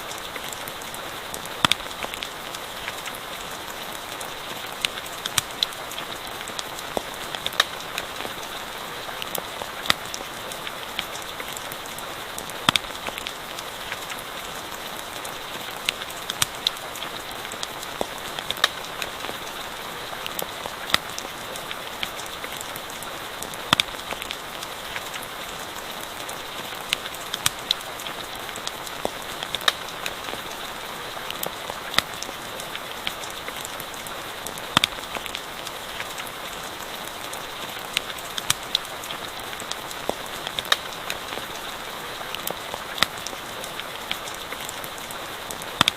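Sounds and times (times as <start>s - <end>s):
steady rain hiss: 0.0s - 45.9s
wood fire crackling: 0.0s - 45.9s.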